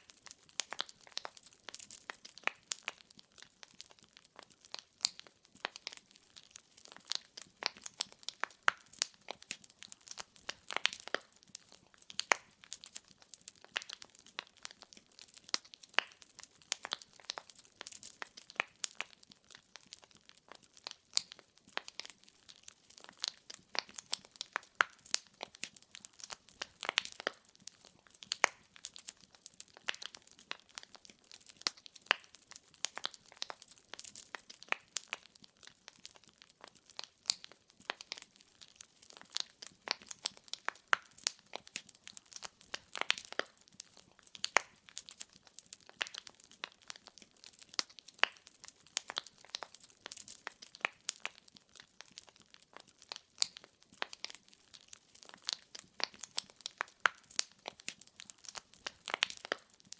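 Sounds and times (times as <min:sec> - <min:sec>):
logs crackling and popping: 0:00.0 - 0:59.9.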